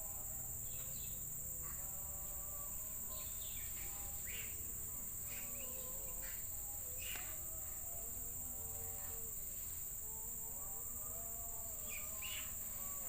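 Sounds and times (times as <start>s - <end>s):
faint wavering whistles: 0.0s - 9.3s, 11.5s - 13.0s
insects droning: 0.0s - 13.0s.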